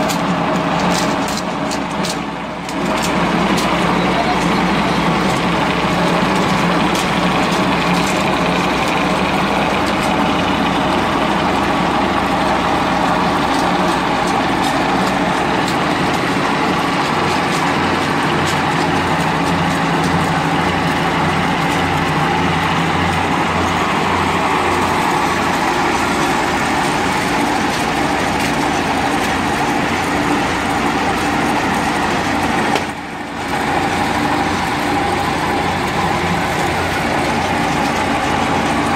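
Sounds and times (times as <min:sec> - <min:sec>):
engine driving an extruder: 0:00.0 - 0:38.9.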